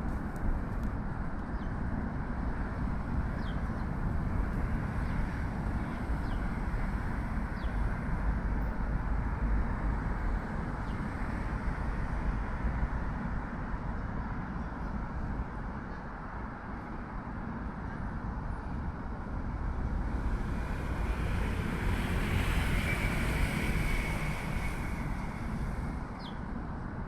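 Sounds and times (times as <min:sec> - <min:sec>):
heavy road traffic rumble: 0:00.0 - 0:27.0.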